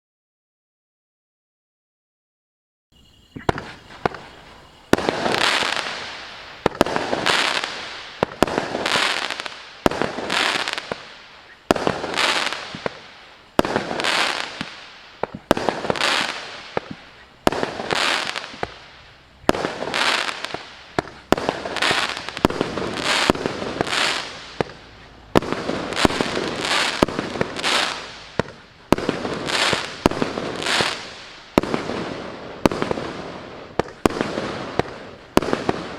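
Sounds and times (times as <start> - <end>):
fireworks bangs: 3.0 - 35.9.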